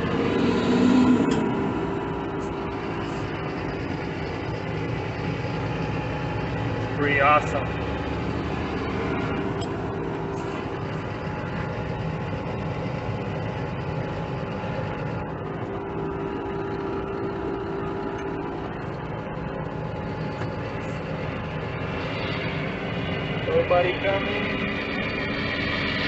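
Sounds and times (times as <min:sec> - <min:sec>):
diesel engine hum from cab: 0:00.0 - 0:26.0.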